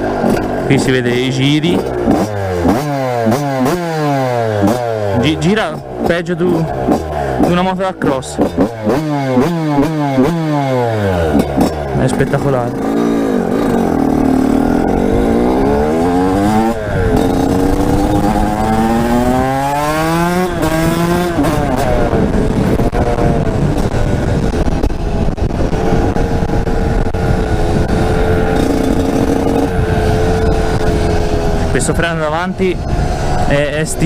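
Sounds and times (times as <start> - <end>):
two-stroke motorcycle engine revving: 0.0 - 34.0.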